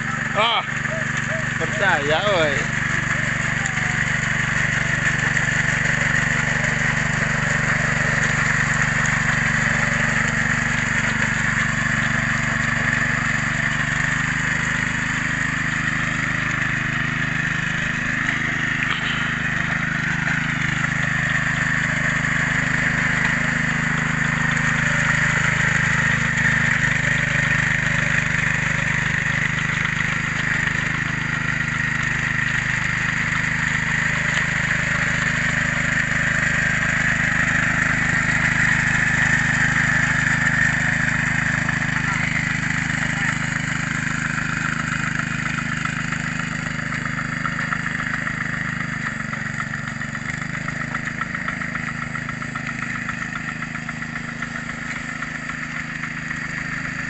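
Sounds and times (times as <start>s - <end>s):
small petrol engine running: 0.0s - 57.0s
wheels churning through mud: 0.0s - 57.0s.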